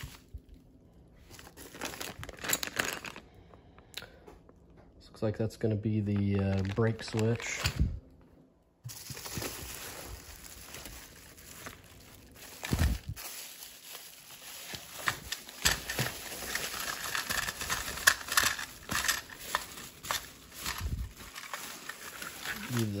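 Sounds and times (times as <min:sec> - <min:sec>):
plastic packaging crinkling: 0:00.0 - 0:03.5, 0:06.1 - 0:07.9, 0:08.8 - 0:23.0.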